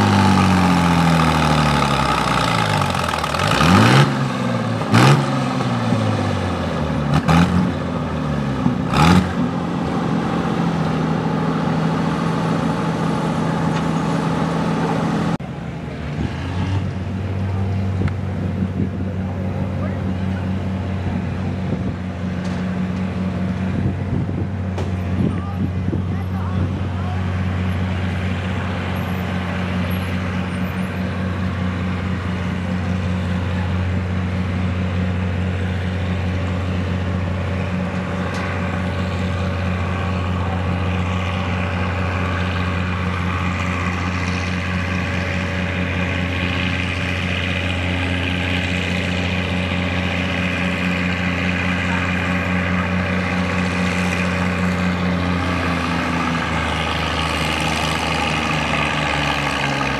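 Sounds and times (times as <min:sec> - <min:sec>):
tractor engine throttling up: 0:00.0 - 0:59.9
tractor engines idling: 0:00.0 - 0:59.9.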